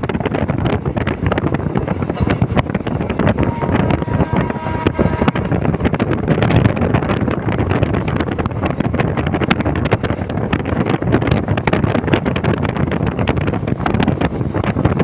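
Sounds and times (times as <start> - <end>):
passenger train rumbling: 0.0 - 15.0
train wheels clattering on track: 0.0 - 15.0
wind buffeting microphone: 0.0 - 15.0.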